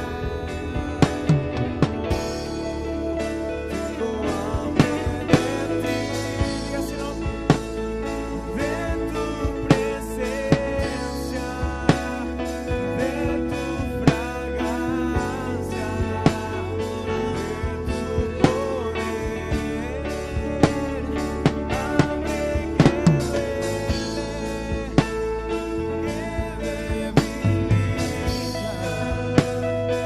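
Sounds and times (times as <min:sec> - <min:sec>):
bending melody line: 0:00.0 - 0:30.0
steady drum beat: 0:00.0 - 0:30.0
worship music with guitar: 0:00.0 - 0:30.0.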